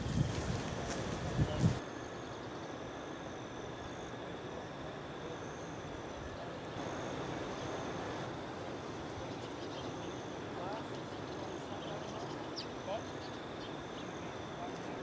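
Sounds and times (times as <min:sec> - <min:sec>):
faint high whine: 0:00.0 - 0:15.0
outdoor background hiss: 0:00.0 - 0:15.0.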